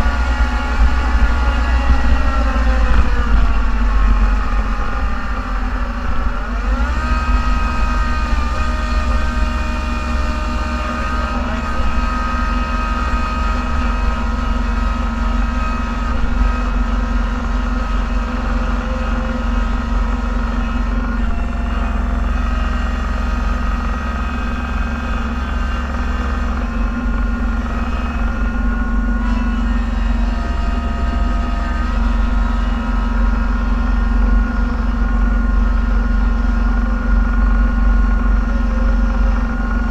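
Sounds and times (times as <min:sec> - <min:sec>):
snowplow engine drone and whine: 0:00.0 - 0:39.9.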